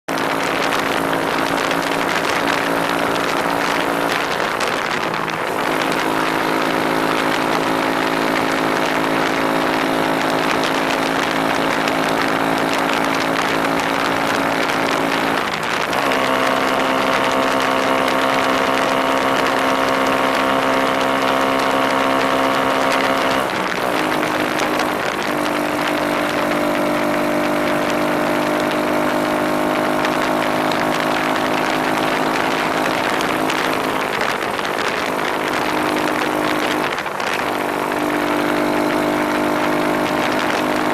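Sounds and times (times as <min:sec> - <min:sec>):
scooter engine running: 0:00.0 - 0:40.9.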